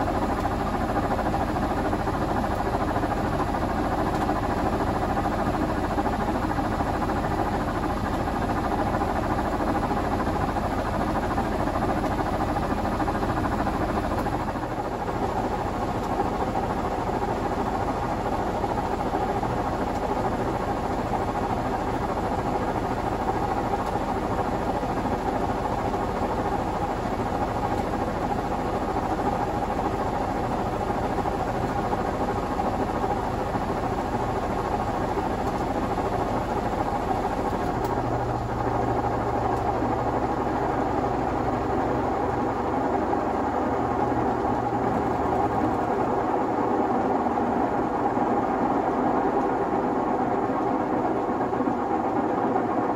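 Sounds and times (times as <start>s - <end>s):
washing machine whirring: 0.0s - 52.9s.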